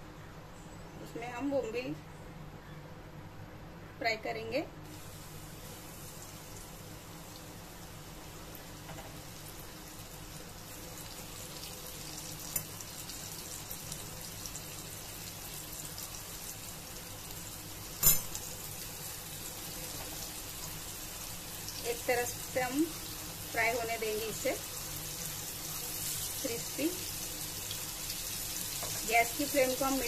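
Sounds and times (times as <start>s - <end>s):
fish sizzling in hot oil: 4.9s - 30.0s.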